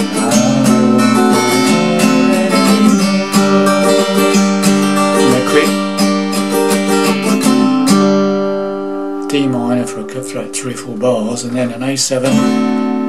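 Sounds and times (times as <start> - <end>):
acoustic guitar strummed: 0.0 - 13.0.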